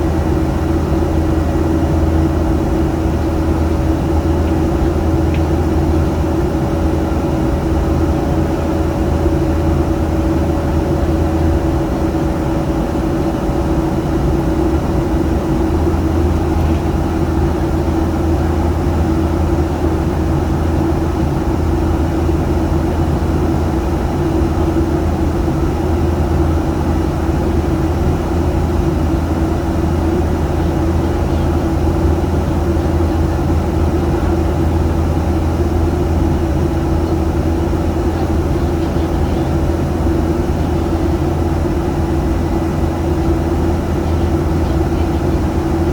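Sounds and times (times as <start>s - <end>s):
aircraft engine drone: 0.0s - 45.9s
steady humming tones: 0.0s - 45.9s.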